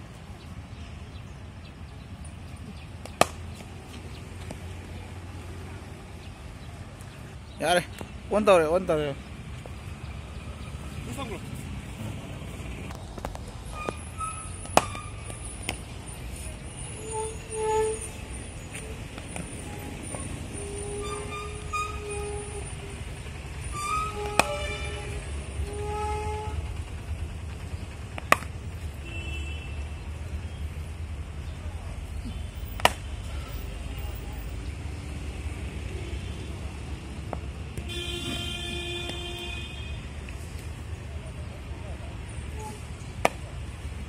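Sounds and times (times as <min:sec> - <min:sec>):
low rumble of vehicle noise: 0:00.0 - 0:44.0.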